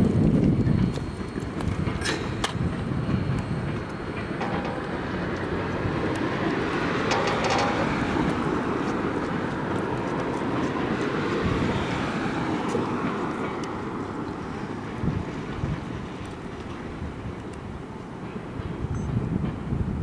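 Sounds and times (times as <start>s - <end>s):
steel train wheels on rail: 0.0s - 20.0s
train cars clanking: 0.2s - 20.0s.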